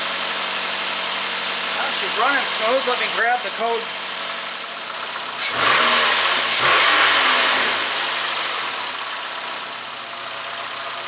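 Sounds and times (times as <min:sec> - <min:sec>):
car engine idling: 0:00.0 - 0:11.0
car engine revving: 0:00.0 - 0:11.0.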